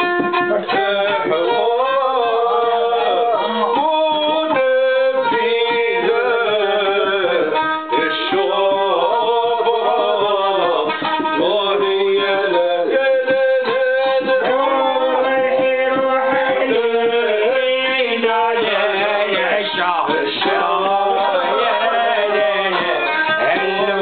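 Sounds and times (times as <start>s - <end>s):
hand drum beats: 0.0s - 24.0s
man singing: 0.0s - 24.0s
violin sliding notes: 0.0s - 24.0s.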